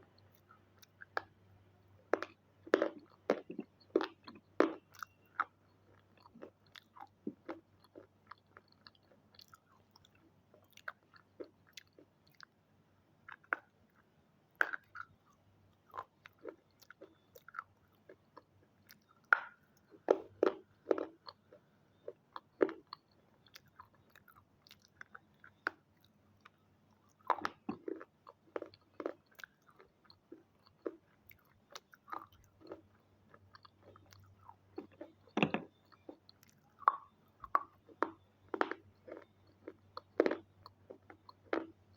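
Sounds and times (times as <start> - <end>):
crunching and chewing: 0.0 - 12.6, 13.2 - 41.9
faint low hum: 0.0 - 41.9.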